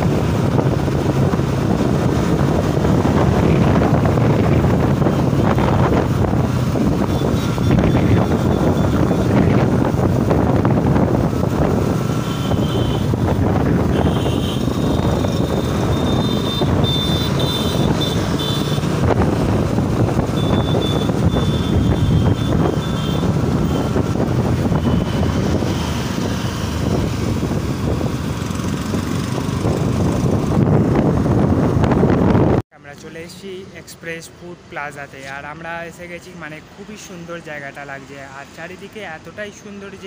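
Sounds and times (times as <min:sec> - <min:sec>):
motorcycle engine: 0:00.0 - 0:32.2
wind rushing over microphone: 0:00.0 - 0:32.6.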